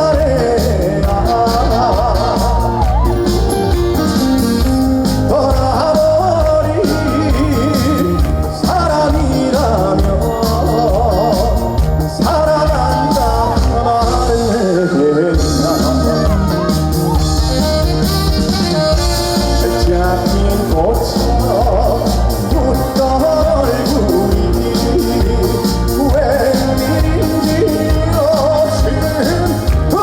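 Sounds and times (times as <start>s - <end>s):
band accompaniment: 0.0s - 30.0s
man singing with vibrato: 0.0s - 30.0s.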